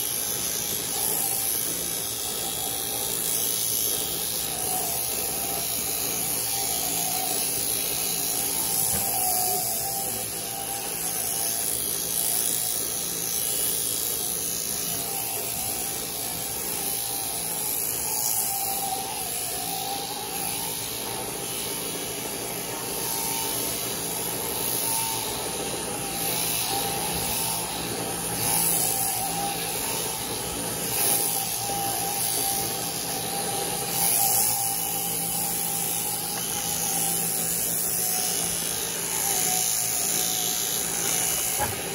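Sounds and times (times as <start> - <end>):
electric shears cutting fleece: 0.0 - 41.9.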